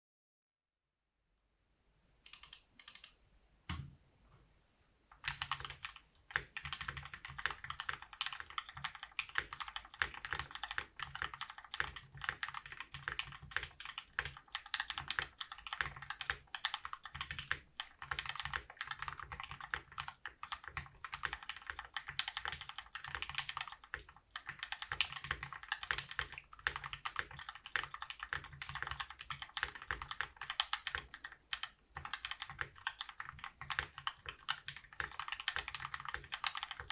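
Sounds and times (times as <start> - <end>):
fast mechanical keyboard typing: 5.2 - 36.9.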